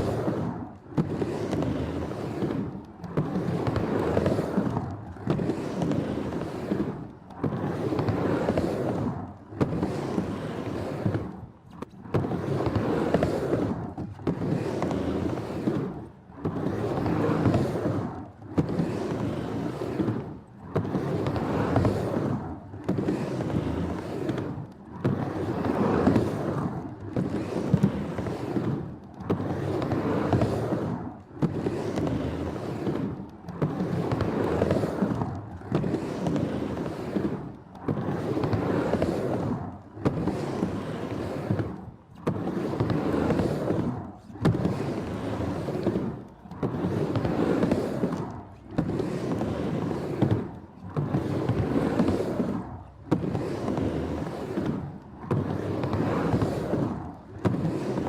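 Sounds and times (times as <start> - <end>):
skateboard clicks: 0.0 - 58.0
skateboard wheels rolling on pavement: 0.0 - 58.0.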